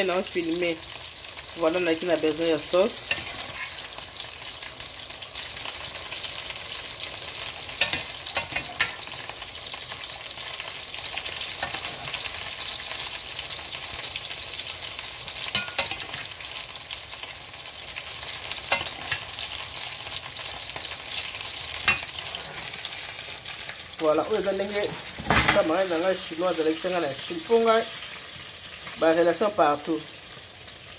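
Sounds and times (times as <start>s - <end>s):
noodles sizzling in frying pan: 0.0s - 30.9s.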